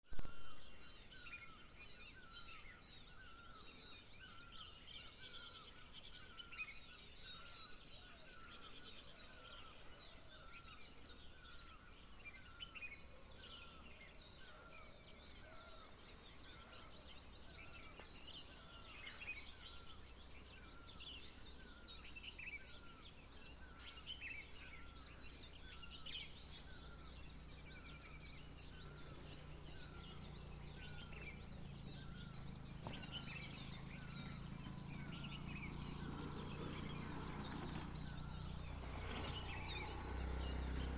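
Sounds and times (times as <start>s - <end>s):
birds chirping and trilling: 0.1s - 40.9s.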